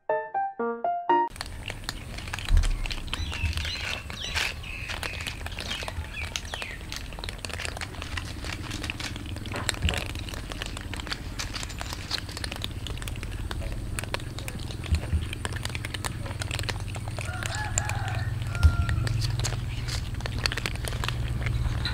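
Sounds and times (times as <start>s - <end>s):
cats crunching dry kibble: 1.3s - 21.9s.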